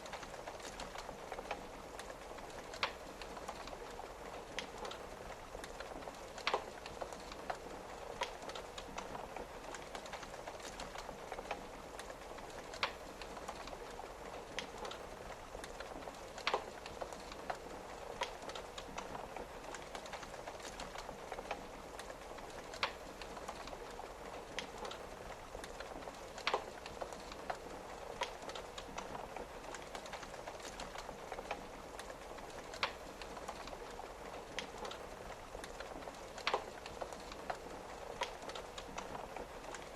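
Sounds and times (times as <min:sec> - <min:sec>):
rain pattering on a window: 0:00.0 - 0:39.9
wood fire crackling and popping: 0:00.0 - 0:39.9.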